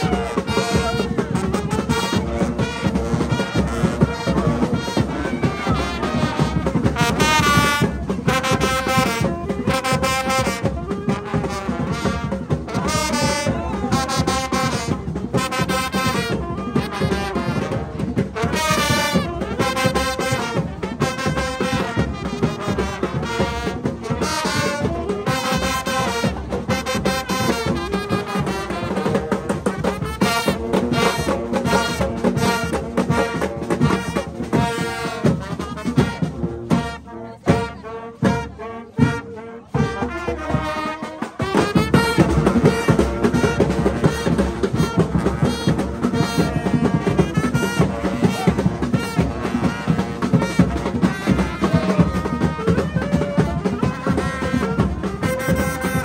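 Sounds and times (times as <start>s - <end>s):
drum strokes: 0.0s - 56.0s
marching brass band playing: 0.0s - 56.0s.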